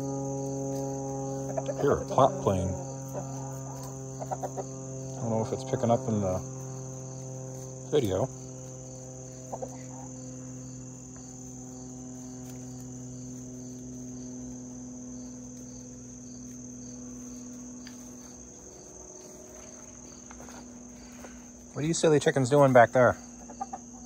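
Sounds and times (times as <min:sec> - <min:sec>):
crickets chirring: 0:00.0 - 0:24.0
propeller plane droning: 0:00.0 - 0:24.0.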